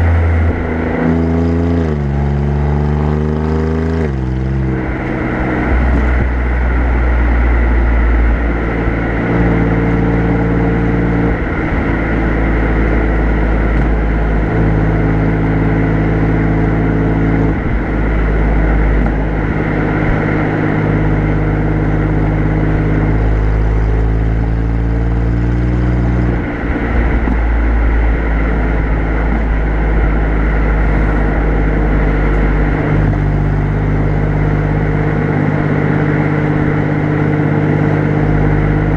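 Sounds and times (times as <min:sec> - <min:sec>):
car exhaust at low revs: 0:00.0 - 0:38.9
tyre and wind noise: 0:00.0 - 0:38.9.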